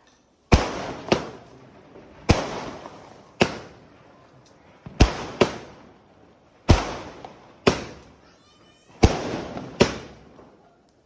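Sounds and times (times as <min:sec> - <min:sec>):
firework bangs: 0:00.4 - 0:11.0.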